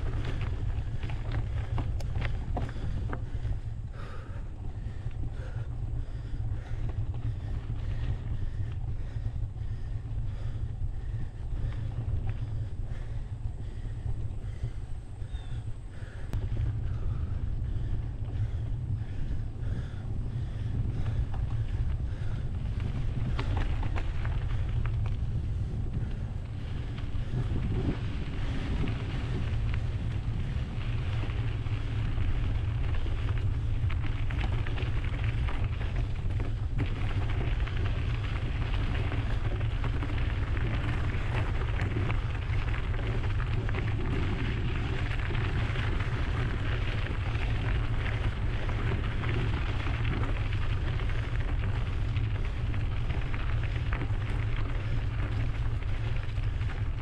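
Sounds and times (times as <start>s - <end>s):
bike tyres rolling on trail: 0.0s - 57.0s
wind rumble on microphone: 0.0s - 57.0s.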